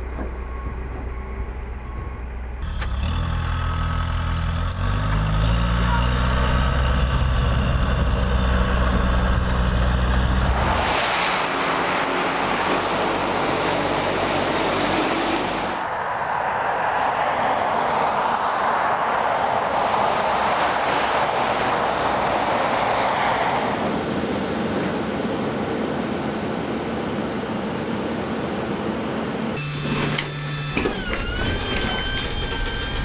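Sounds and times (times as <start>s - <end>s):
truck driving on highway: 0.0s - 33.0s.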